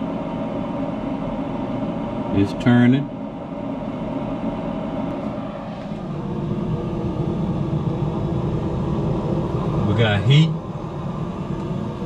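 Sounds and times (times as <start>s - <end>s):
grill fan and auger whirring: 0.0s - 12.0s.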